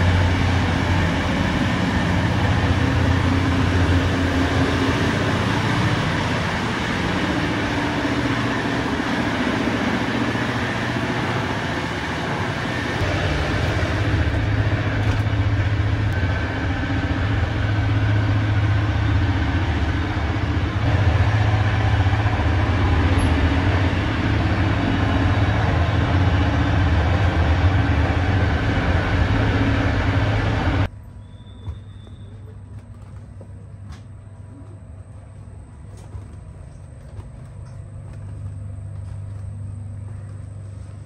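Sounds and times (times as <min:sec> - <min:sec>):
moving train rumble and hum: 0:00.0 - 0:41.0.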